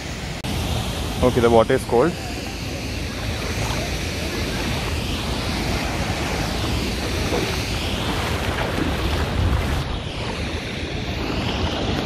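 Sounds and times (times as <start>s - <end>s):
distant waterfall: 0.0s - 12.0s
flowing river water: 0.0s - 12.0s
wind rumbling on microphone: 0.0s - 12.0s.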